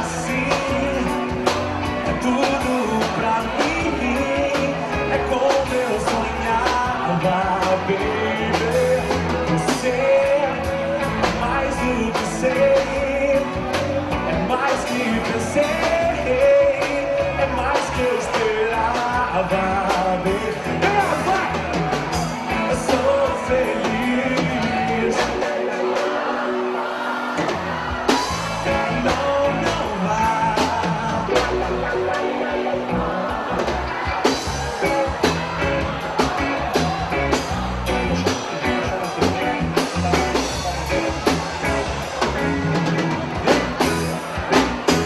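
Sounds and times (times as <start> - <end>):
drum beat: 0.0 - 26.4, 27.4 - 45.0
guitar: 0.0 - 45.0
person singing: 0.0 - 45.0.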